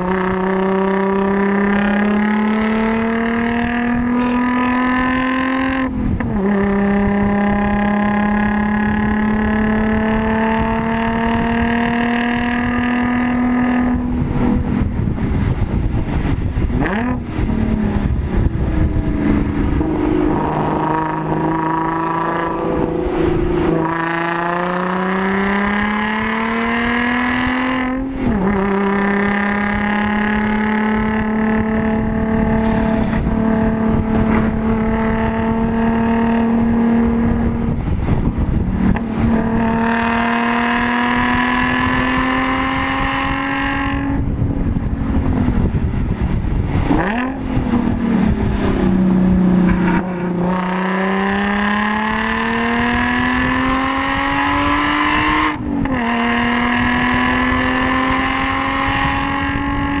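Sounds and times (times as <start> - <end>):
car engine revving through gears: 0.0 - 60.0
tyre and wind noise: 0.0 - 60.0.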